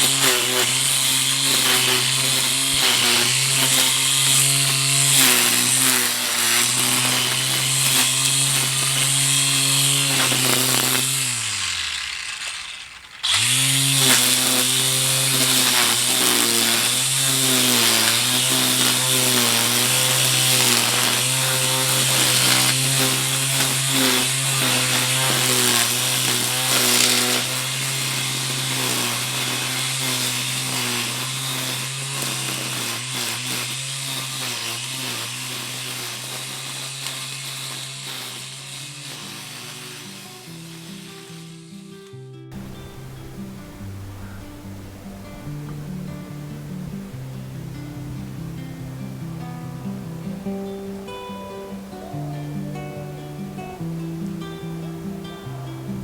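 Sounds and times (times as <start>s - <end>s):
small petrol engine revving: 0.0s - 56.0s.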